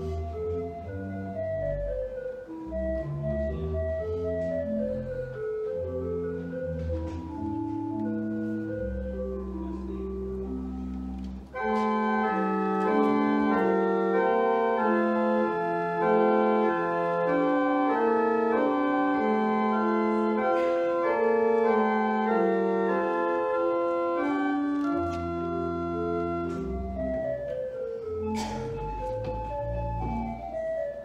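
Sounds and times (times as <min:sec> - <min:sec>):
church organ chords: 0:00.0 - 0:31.0.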